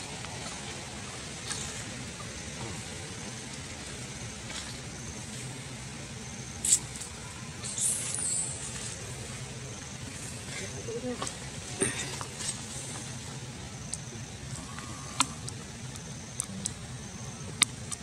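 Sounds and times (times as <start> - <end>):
low outdoor rumble and hiss: 0.0 - 18.0.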